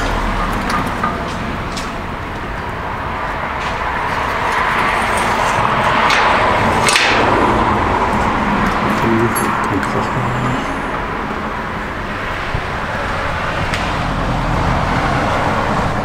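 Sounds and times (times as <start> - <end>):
road traffic hiss: 0.0 - 16.0.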